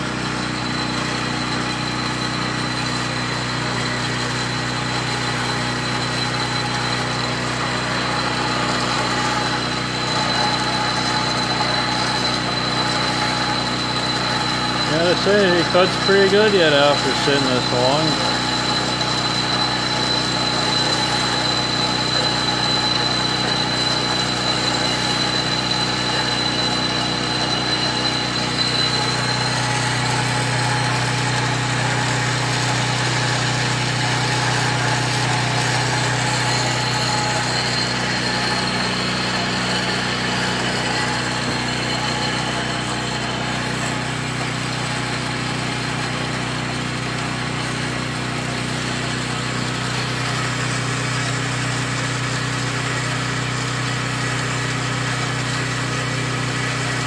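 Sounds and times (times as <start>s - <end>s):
high blade whine: 0.0s - 46.8s
band saw cutting steel: 0.0s - 57.0s.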